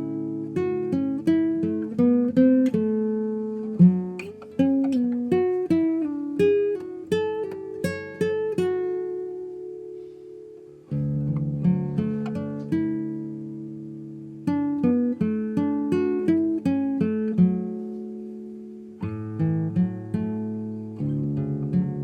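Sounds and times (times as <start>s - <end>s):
acoustic guitar picked melody: 0.0s - 22.0s.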